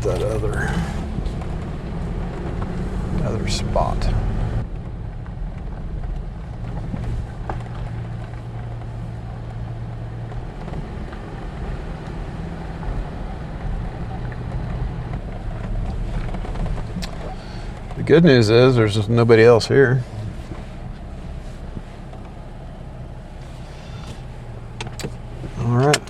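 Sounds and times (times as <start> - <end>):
road noise: 0.0 - 26.0
vehicle engine running: 0.0 - 26.0.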